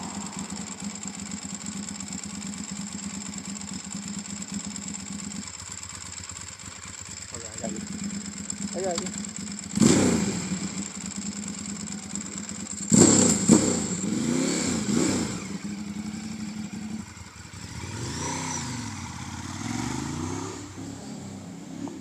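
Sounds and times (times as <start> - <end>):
motorcycle engine revving: 0.0 - 22.0
motorcycle pulling away: 0.0 - 22.0.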